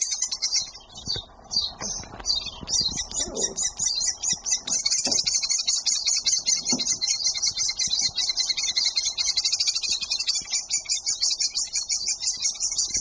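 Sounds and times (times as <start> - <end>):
swifts chittering: 0.0 - 13.0.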